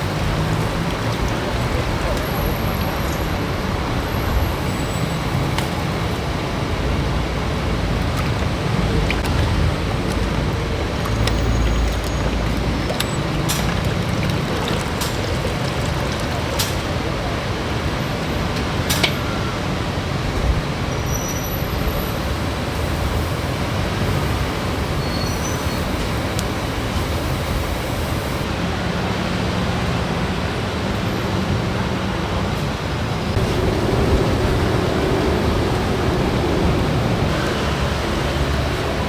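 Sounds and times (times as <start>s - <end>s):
vehicle engine hum: 0.0s - 20.9s, 21.6s - 39.0s
city traffic noise: 0.0s - 39.0s.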